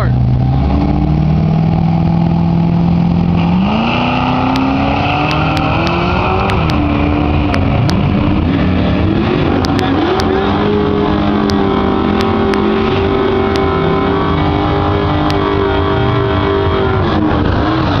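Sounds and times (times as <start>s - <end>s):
truck engines at full throttle: 0.0s - 18.0s.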